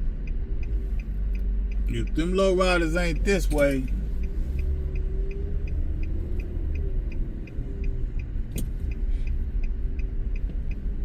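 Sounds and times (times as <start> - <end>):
road and engine rumble: 0.0 - 11.0
light even ticking: 0.2 - 11.0.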